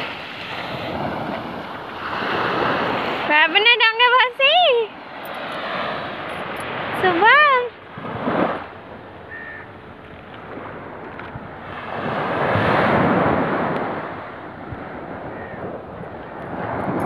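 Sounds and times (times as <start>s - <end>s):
small waves washing on sand: 0.0s - 17.0s.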